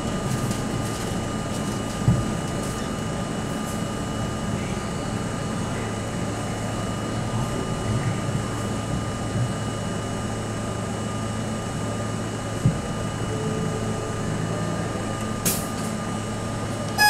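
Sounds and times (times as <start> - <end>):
train wheels rumbling on rail: 0.0 - 10.7, 12.4 - 17.0.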